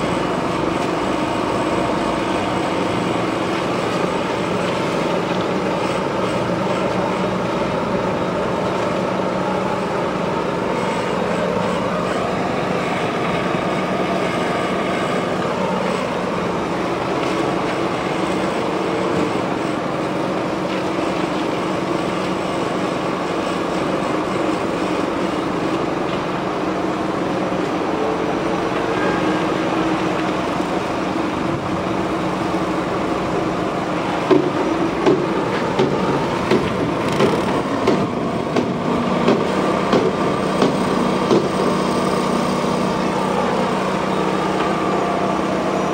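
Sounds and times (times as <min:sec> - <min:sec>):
machine engine running: 0:00.0 - 0:45.9.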